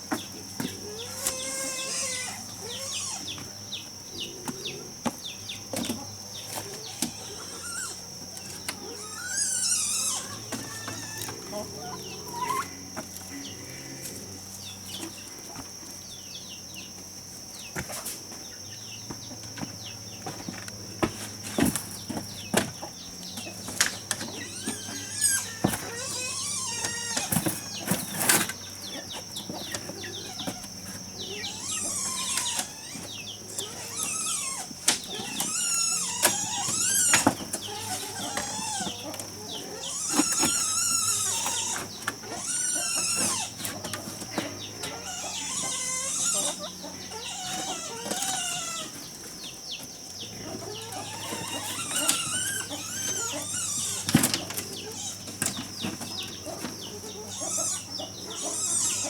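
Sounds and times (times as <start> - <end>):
chickens clucking: 0.0 - 59.0
insect drone: 0.0 - 59.0.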